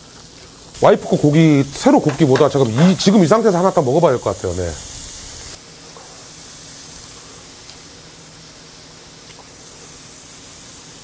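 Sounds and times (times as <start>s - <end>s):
beef sizzling on a grill: 0.0s - 11.0s.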